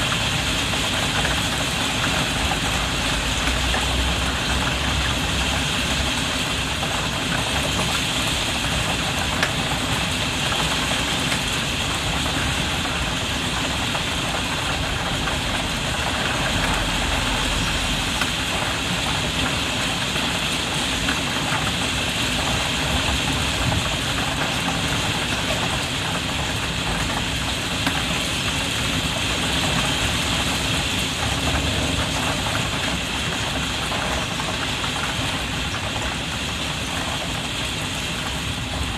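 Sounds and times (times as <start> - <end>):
rain pattering on a skylight: 0.0 - 38.9.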